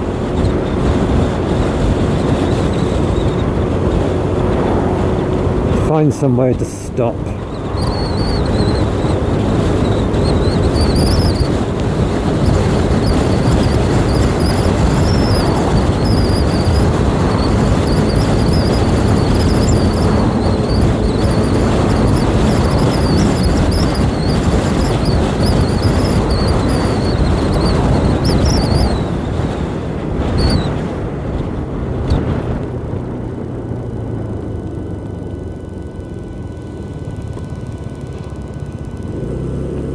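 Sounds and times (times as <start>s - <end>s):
wind rush: 0.0s - 39.6s
motorbike engine at speed: 0.0s - 39.9s
wavering high whine: 2.9s - 29.3s, 32.0s - 39.9s.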